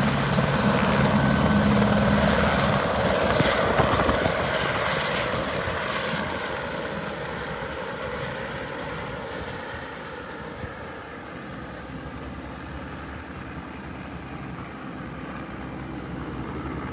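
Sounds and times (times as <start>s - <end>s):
helicopter rotor and turbine: 0.0s - 16.9s.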